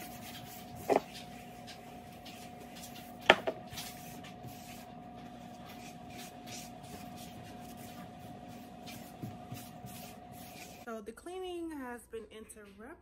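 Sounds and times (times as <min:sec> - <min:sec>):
paper towel wiping countertop: 0:00.0 - 0:10.9.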